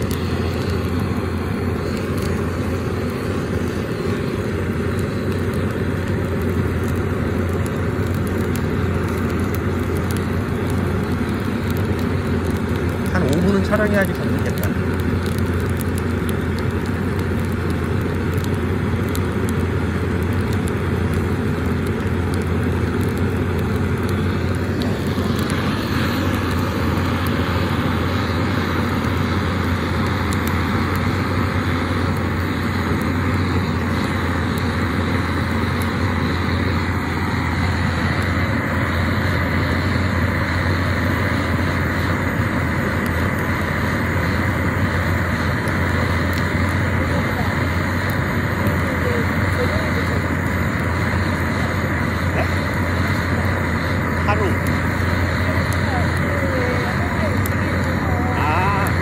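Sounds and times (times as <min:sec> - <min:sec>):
propane torch rushing flame: 0:00.0 - 0:59.0.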